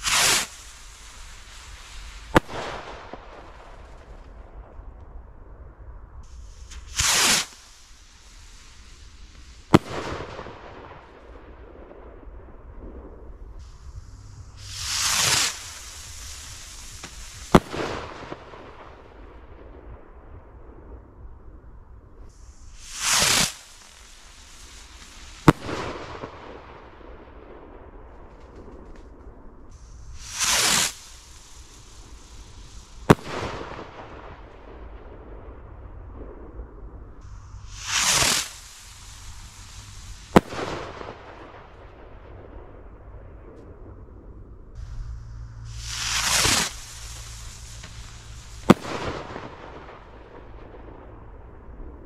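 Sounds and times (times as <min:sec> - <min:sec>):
firework bang: 0:00.0 - 0:05.2, 0:06.2 - 0:20.7, 0:22.2 - 0:52.0
firework rocket whoosh: 0:00.0 - 0:21.4, 0:22.1 - 0:52.0
faint hiss of burning stars: 0:00.0 - 0:52.0.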